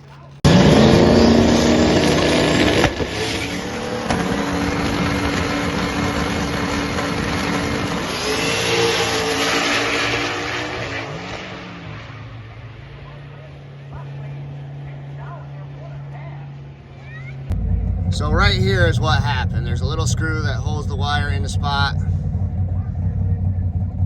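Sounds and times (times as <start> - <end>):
race car engines at full throttle: 0.0 - 24.0.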